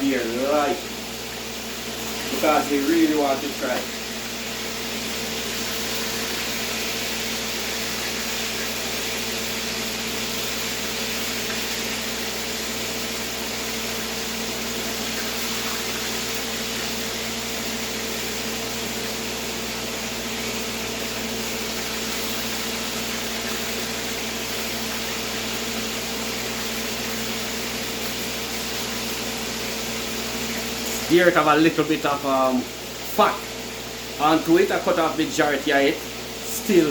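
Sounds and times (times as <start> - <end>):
meat sizzling in hot oil: 0.0 - 36.9.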